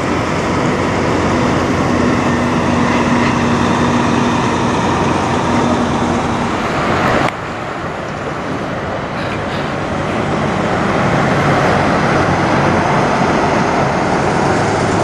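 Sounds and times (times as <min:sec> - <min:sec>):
diesel truck engine droning: 0:00.0 - 0:15.0
road noise: 0:00.0 - 0:15.0.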